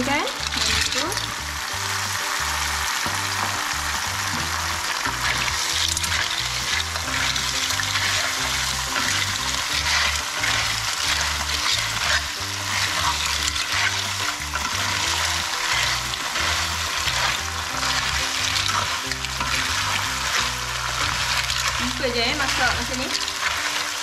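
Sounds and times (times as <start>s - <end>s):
clams sizzling in a pan: 0.0s - 24.0s
light background music: 0.0s - 24.0s
stirring scrape and clatter: 4.3s - 24.0s.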